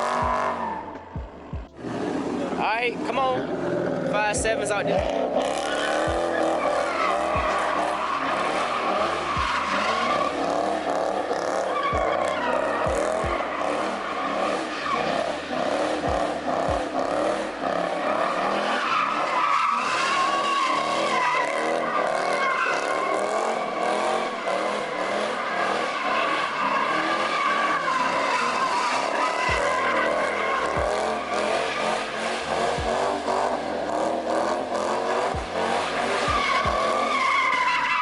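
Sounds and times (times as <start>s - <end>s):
car engine: 0.0s - 38.0s
tires squealing: 0.0s - 38.0s.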